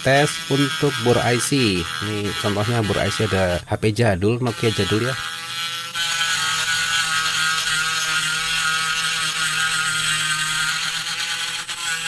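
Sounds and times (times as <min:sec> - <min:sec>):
mini grinder grinding chip: 0:00.0 - 0:12.0.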